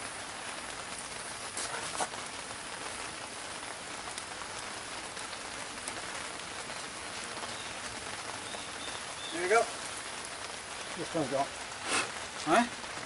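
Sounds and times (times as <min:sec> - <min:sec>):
rain falling on a canopy: 0:00.0 - 0:13.0.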